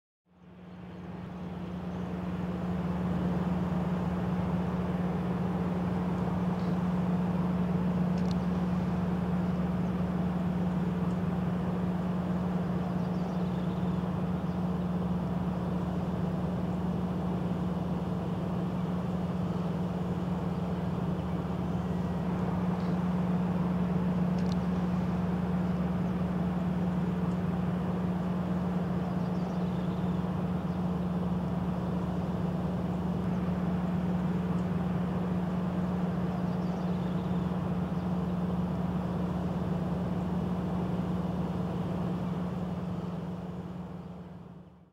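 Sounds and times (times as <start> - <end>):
low mechanical hum: 0.3 - 44.9.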